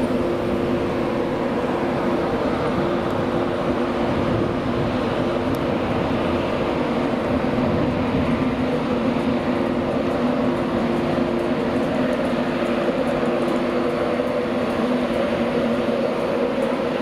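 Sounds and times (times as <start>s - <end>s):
electric locomotive hum: 0.0s - 17.0s
wheel-on-rail noise: 0.0s - 17.0s.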